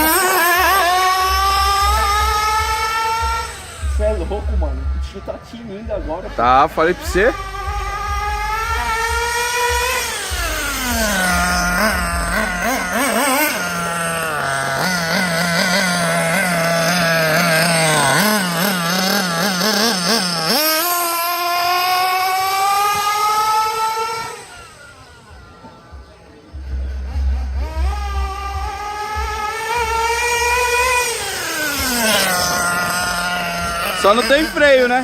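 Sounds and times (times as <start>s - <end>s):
rc car motor whining: 0.0s - 35.0s.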